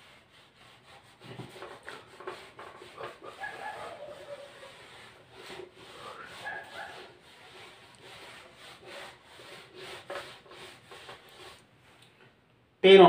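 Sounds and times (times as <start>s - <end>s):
eraser wiping whiteboard: 0.0s - 11.7s.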